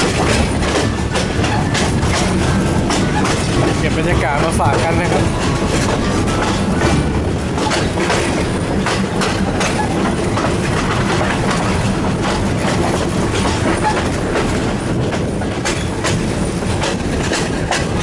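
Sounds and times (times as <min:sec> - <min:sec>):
train rumble: 0:00.0 - 0:18.0
wheels clattering over rail joints: 0:00.0 - 0:18.0.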